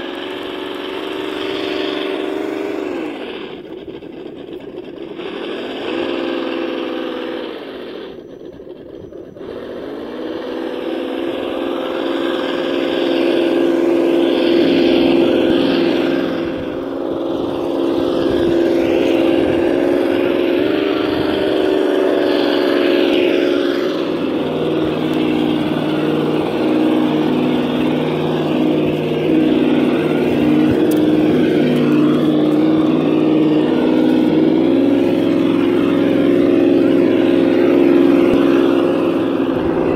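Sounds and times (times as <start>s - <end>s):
toy truck motor whine: 0.0s - 39.9s.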